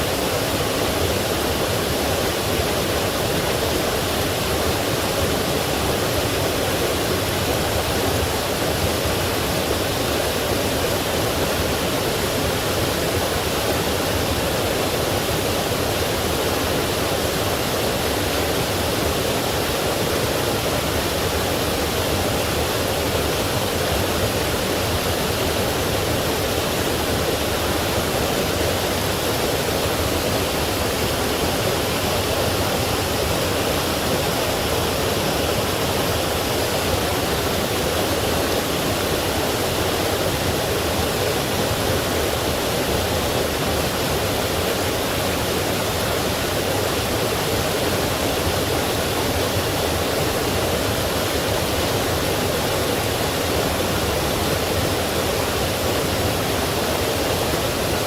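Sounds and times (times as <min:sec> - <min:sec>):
stream rushing over falls: 0:00.0 - 0:58.0.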